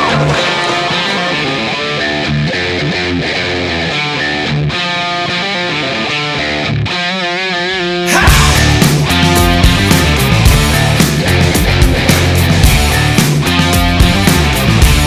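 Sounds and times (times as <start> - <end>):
rock music with guitar: 0.0 - 15.0.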